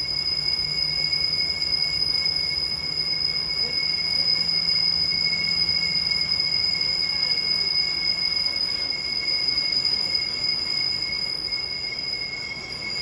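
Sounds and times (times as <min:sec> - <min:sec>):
high-pitched two-tone whine: 0:00.0 - 0:13.0.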